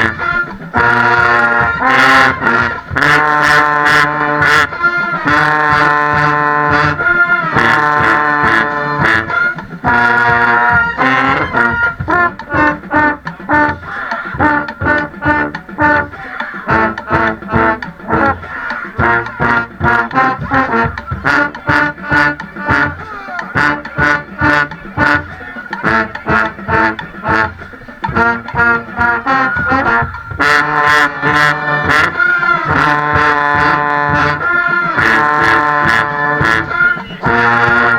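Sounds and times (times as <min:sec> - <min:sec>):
brass playing punchy notes: 0:00.0 - 0:37.9
steady drum beat: 0:00.0 - 0:37.9.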